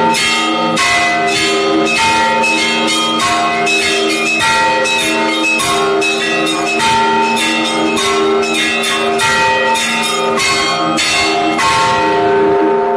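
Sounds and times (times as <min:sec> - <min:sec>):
small bells striking quickly: 0:00.0 - 0:12.4
large church bells ringing: 0:00.0 - 0:12.9.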